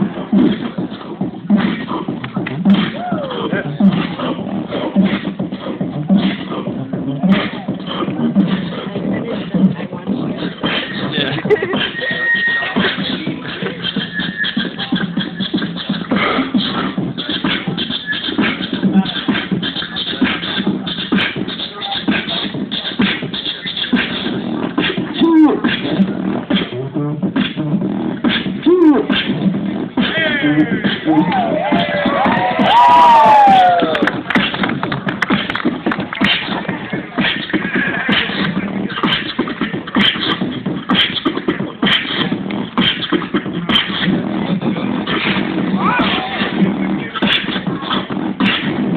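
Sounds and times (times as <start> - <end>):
beatboxing through amplifier: 0.0 - 48.9.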